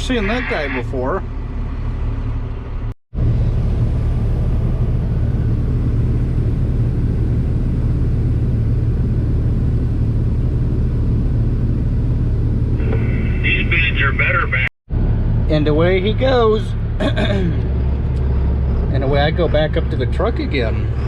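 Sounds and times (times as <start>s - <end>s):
diesel engine low drone: 0.0s - 21.0s.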